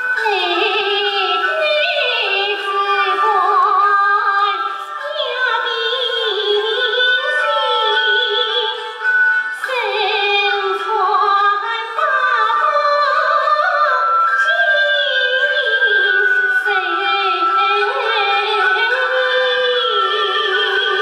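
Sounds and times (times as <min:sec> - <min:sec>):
traditional instrumental accompaniment: 0:00.0 - 0:21.0
woman singing opera: 0:00.0 - 0:21.0.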